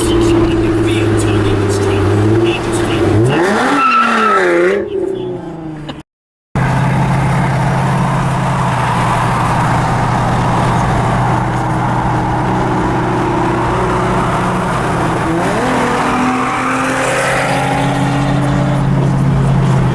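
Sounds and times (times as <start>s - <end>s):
car engine droning: 0.0s - 6.0s, 6.6s - 19.9s.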